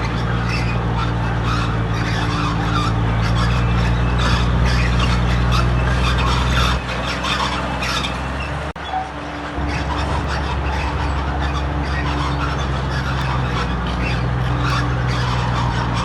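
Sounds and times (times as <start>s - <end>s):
diesel machinery engine hum: 0.0s - 16.0s
rough scraping and squeaking: 0.0s - 16.0s.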